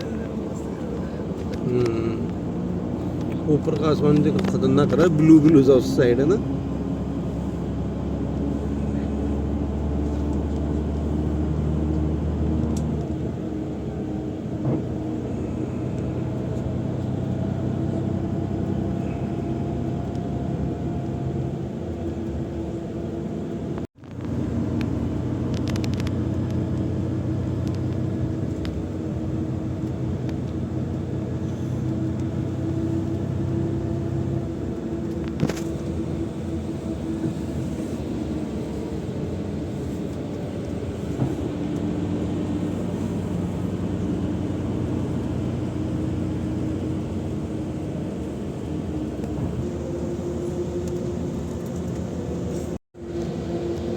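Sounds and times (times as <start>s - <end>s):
vehicle engine humming: 0.0s - 53.9s.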